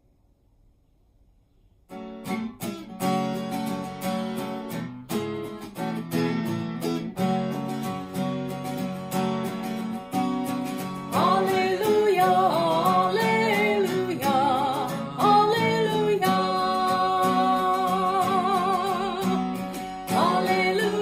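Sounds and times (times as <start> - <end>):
acoustic guitar strumming chords: 1.9 - 21.0.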